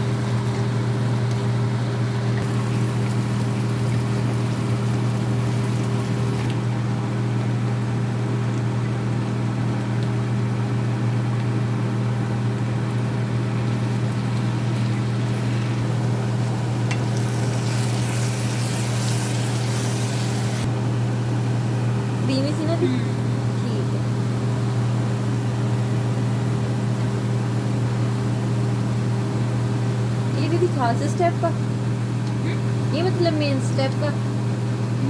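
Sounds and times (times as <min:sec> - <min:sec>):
kitchen fan motor humming: 0:00.0 - 0:35.0.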